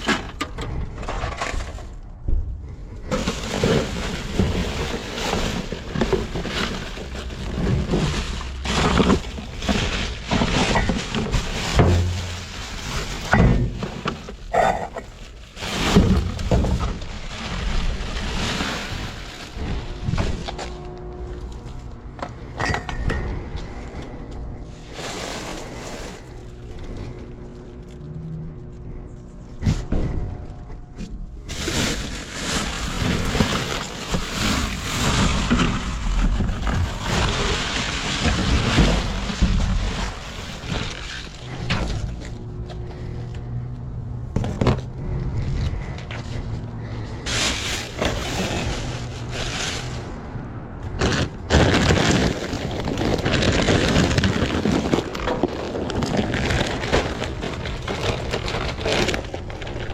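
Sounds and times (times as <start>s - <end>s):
trash rustling and clattering: 0.0s - 59.9s.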